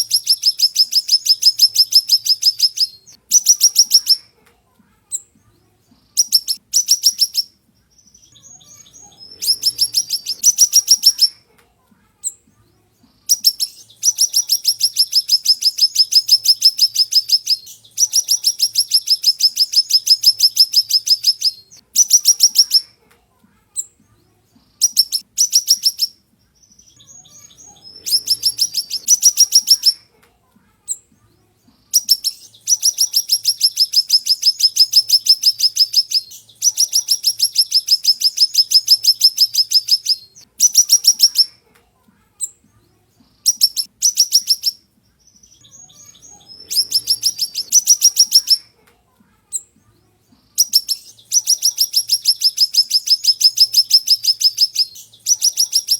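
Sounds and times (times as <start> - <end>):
songbird singing trills: 0.0 - 4.3, 5.1 - 11.4, 12.2 - 23.0, 23.8 - 30.1, 30.9 - 41.6, 42.4 - 48.7, 49.5 - 55.9.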